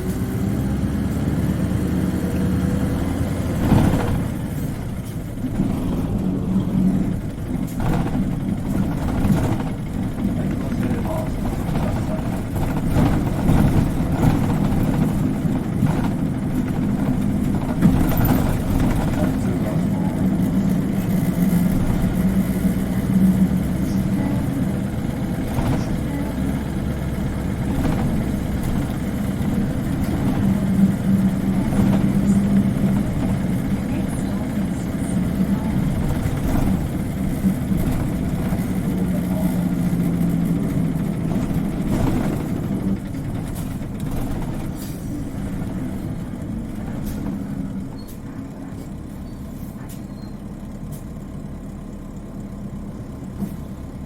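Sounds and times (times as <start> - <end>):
bus engine droning: 0.0 - 54.0.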